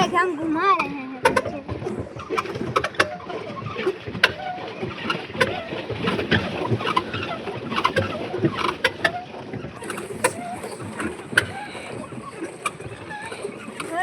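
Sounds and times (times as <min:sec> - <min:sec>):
boat clicks and knocks: 0:00.0 - 0:14.0.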